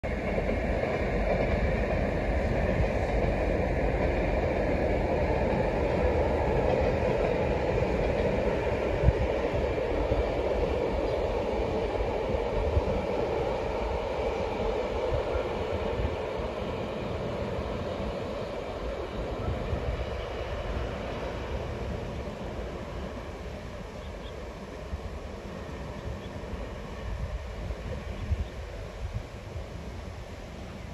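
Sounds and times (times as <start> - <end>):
distant train rumbling: 0.0 - 30.9.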